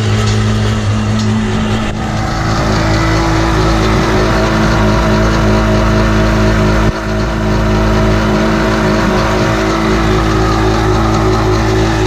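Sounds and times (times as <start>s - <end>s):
jet ski two-stroke engine running: 0.0s - 12.0s.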